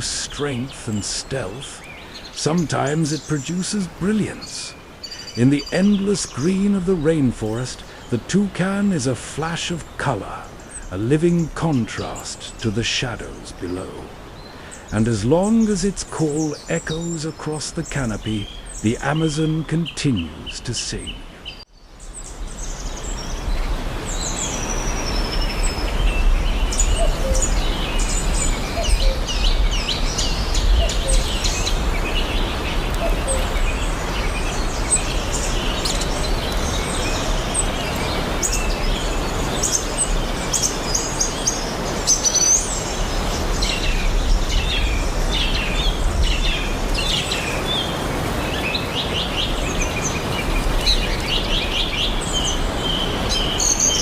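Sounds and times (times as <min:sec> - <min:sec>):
birds chirping and whistling: 0:00.6 - 0:54.0.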